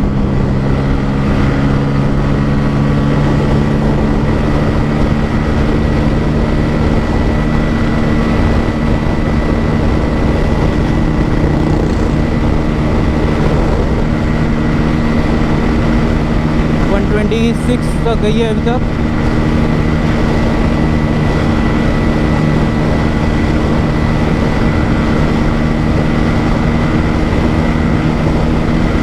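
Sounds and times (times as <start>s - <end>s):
motorcycle engine at high revs: 0.0s - 29.0s
wind rush over microphone: 0.0s - 29.0s.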